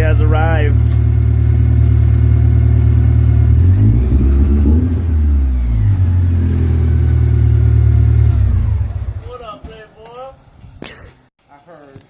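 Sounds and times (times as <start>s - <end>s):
car engine deep rumble: 0.0s - 10.8s.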